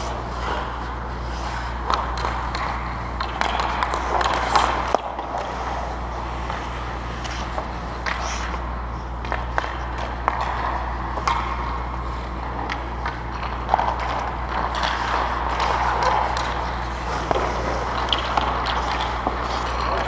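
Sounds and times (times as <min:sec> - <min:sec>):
hockey sticks and puck clacking: 0:00.0 - 0:20.0
skate blades scraping ice: 0:00.0 - 0:20.0
steady low hum: 0:00.0 - 0:20.0.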